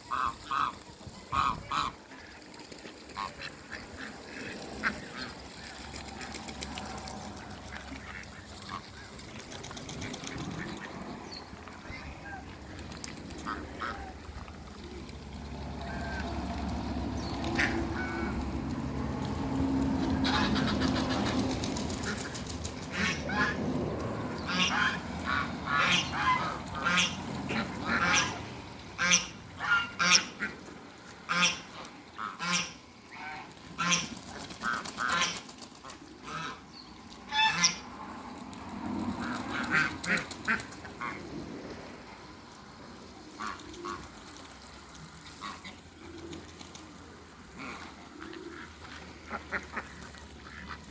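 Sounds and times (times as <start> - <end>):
ducks quacking and honking: 0.0 - 14.9, 15.6 - 38.0, 39.2 - 41.3, 43.3 - 44.1, 45.2 - 46.1, 47.5 - 50.9.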